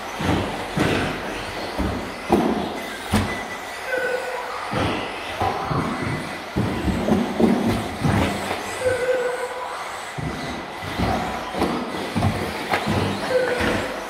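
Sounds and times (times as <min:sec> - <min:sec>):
radio-controlled cars racing: 0:00.0 - 0:14.0
clattering knocks and bumps: 0:00.1 - 0:03.4, 0:04.7 - 0:08.8, 0:10.1 - 0:14.0.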